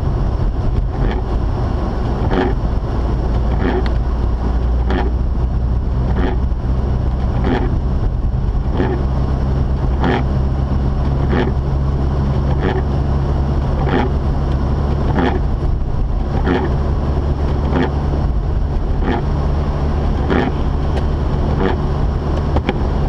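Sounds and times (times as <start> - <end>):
engine and road drone: 0.0 - 23.0
windshield wiper swishing: 0.3 - 23.0.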